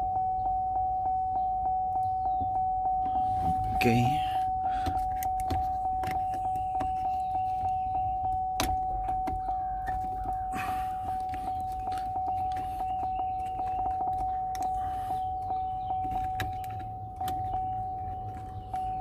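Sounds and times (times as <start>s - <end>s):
parts and wiring rattling: 2.9s - 19.0s.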